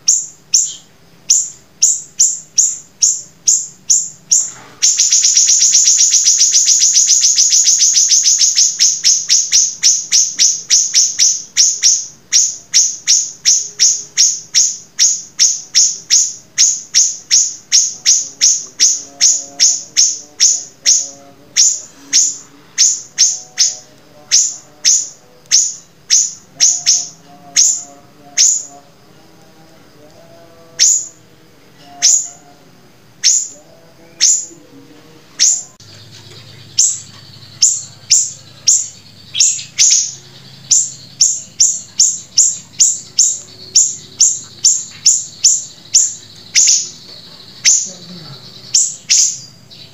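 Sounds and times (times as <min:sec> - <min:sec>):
songbird calling sharp high notes: 0:00.0 - 0:28.9, 0:31.8 - 0:32.5, 0:33.2 - 0:34.7, 0:35.4 - 0:49.9.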